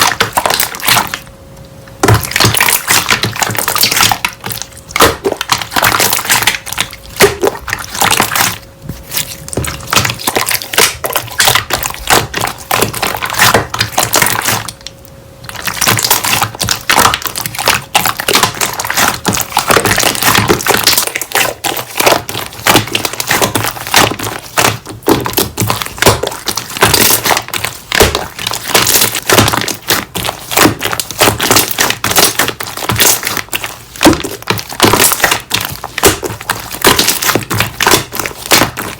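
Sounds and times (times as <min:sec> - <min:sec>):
slime crackling and popping: 0:00.0 - 0:01.3, 0:02.0 - 0:38.9.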